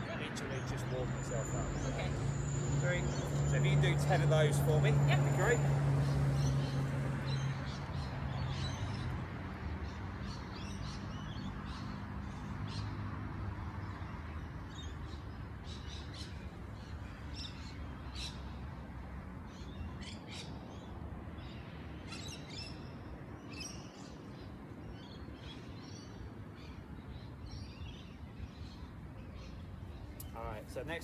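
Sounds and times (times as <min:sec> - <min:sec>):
birds chirping: 0:00.0 - 0:18.8, 0:19.4 - 0:31.0.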